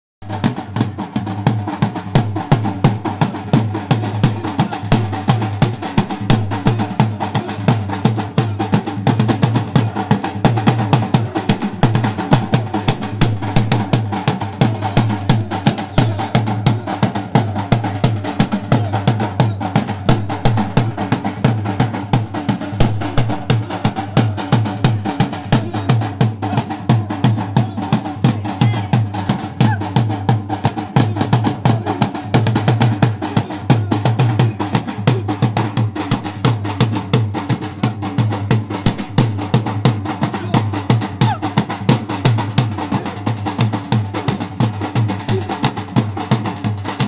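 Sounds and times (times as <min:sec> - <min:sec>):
dhol drum beating: 0:00.2 - 0:47.0.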